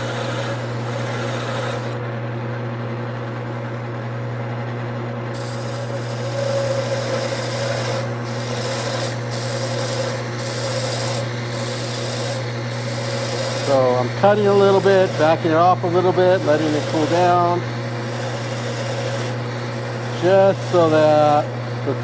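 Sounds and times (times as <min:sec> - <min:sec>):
tool scraping spinning wood: 0:00.0 - 0:02.0, 0:04.7 - 0:22.0
wood lathe motor hum: 0:00.0 - 0:22.0.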